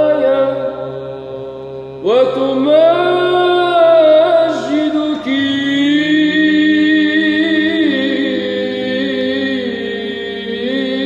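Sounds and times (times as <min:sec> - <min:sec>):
man chanting: 0:00.0 - 0:11.0
steady low drone: 0:00.0 - 0:11.0.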